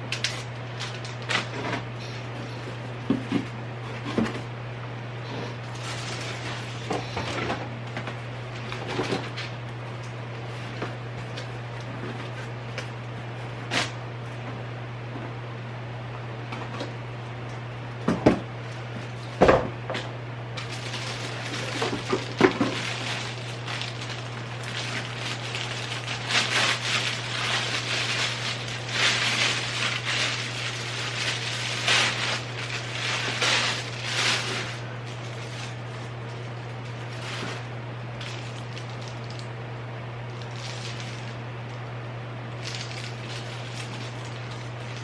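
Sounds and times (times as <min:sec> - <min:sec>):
steady low hum: 0:00.0 - 0:45.0
rustling and shuffling of items: 0:00.1 - 0:04.5, 0:05.2 - 0:15.4, 0:18.0 - 0:39.5, 0:40.2 - 0:41.8, 0:42.5 - 0:45.0.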